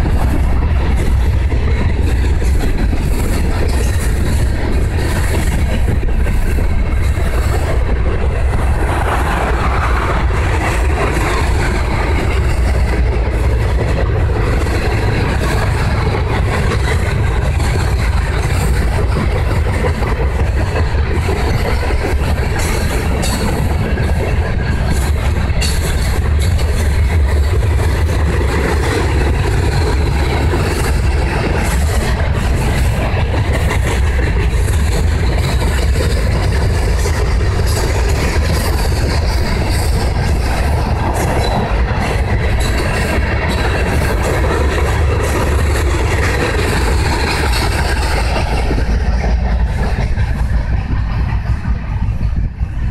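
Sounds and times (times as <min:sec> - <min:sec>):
steel wheels rumbling on rails: 0:00.0 - 0:52.9.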